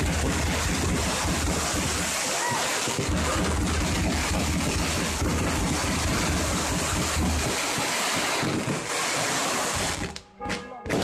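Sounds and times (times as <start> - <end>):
fireworks exploding: 0.0 - 11.0.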